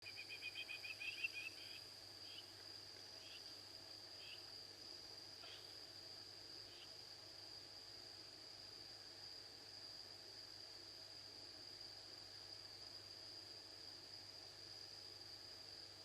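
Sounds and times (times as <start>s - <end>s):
cricket chirping: 0.0s - 16.0s
crickets trilling: 0.0s - 16.0s.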